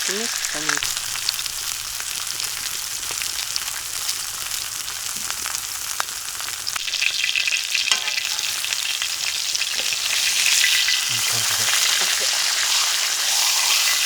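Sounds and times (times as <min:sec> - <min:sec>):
fat crackling: 0:00.0 - 0:12.8
meat sizzling in a hot pan: 0:00.0 - 0:14.0.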